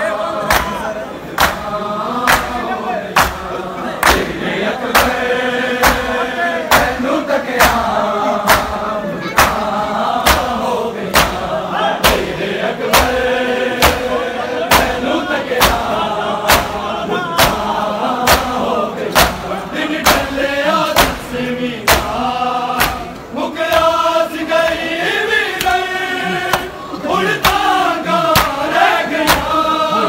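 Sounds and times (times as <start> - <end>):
men chanting a lament: 0.0 - 30.0
crowd beating chests: 0.4 - 30.0.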